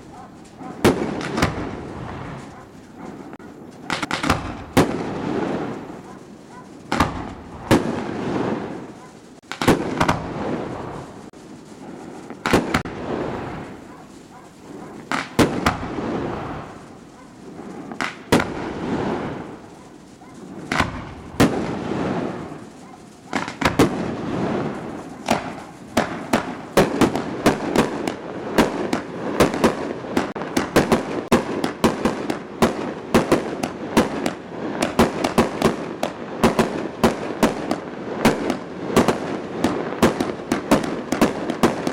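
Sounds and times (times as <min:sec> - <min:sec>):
fireworks bangs with crackle: 0:00.0 - 0:41.9.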